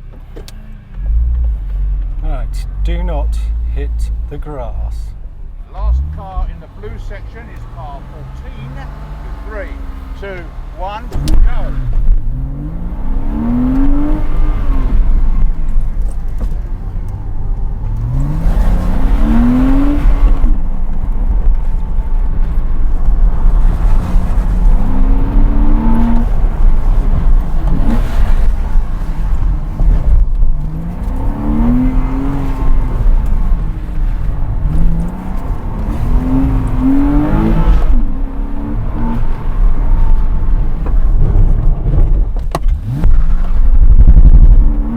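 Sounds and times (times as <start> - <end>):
car engine revving: 0.0 - 44.9
heavy low rumble: 0.9 - 44.9.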